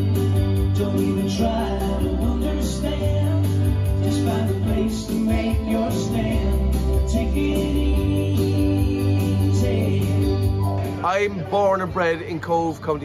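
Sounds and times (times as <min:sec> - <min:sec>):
song with singing and beat: 0:00.0 - 0:12.2.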